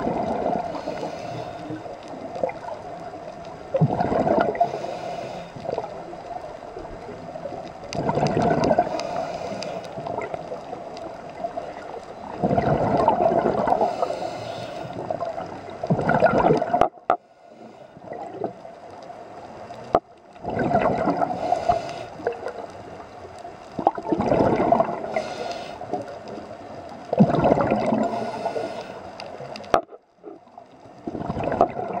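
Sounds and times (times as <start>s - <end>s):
underwater exhaled bubbles gurgling: 0.0s - 32.0s.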